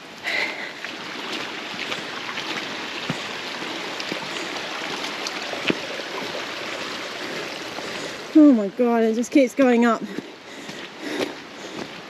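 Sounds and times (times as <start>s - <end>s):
creek water rushing: 0.0s - 12.0s
footsteps on trail: 0.0s - 12.0s.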